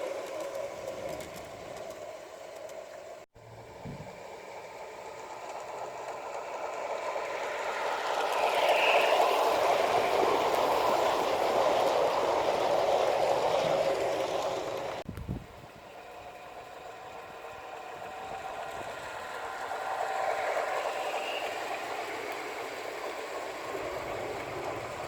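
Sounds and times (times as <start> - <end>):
model train rattling rumble: 0.0 - 25.0.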